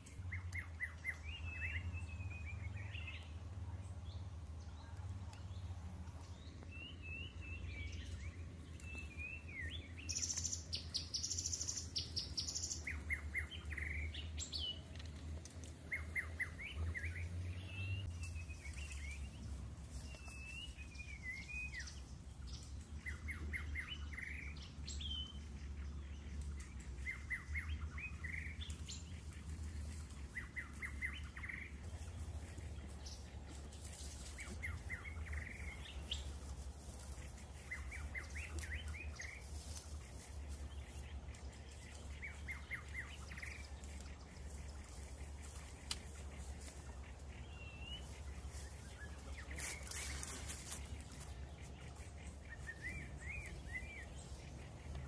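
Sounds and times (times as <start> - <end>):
birds chirping: 0.0 - 55.0
steady low hum: 0.0 - 55.0.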